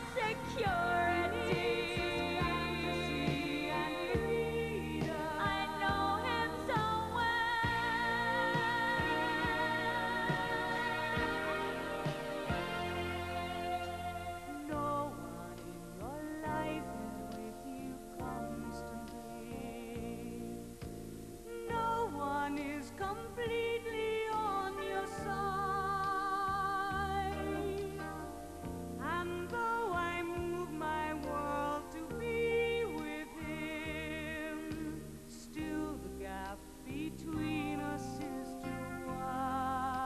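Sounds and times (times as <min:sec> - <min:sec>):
instrumental accompaniment: 0:00.0 - 0:40.0
woman singing a pop ballad: 0:00.0 - 0:40.0.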